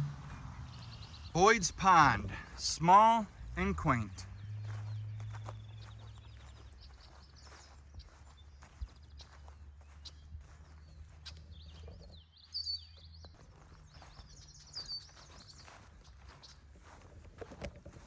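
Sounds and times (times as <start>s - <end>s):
songbird chirping: 0.0s - 17.5s
footsteps on a trail: 0.3s - 18.0s.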